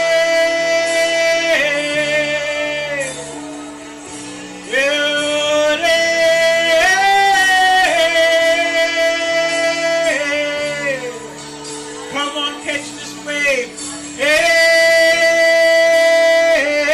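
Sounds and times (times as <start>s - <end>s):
sustained instrumental chords: 0.0s - 16.9s.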